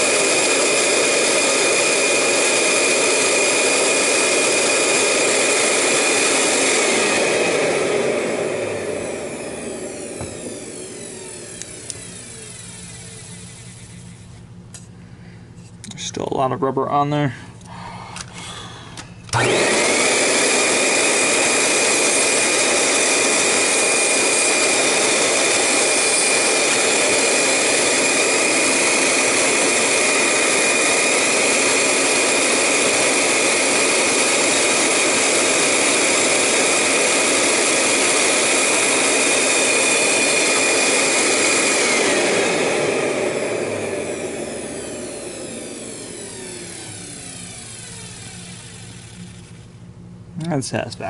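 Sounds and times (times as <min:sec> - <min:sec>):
vacuum motor whine: 0:00.0 - 0:15.0, 0:17.6 - 0:50.6.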